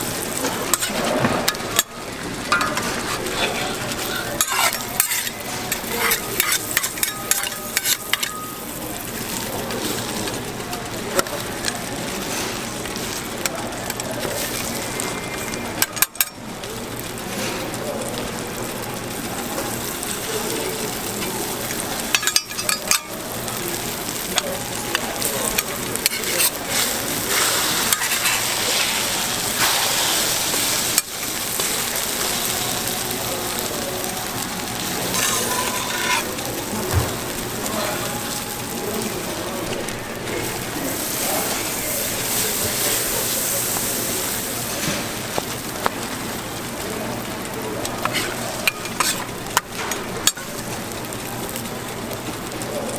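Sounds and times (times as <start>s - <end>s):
food sizzling on a griddle: 0.0s - 52.9s
cooking utensils clinking: 0.1s - 10.4s, 13.9s - 16.4s, 19.4s - 46.1s, 47.8s - 50.7s.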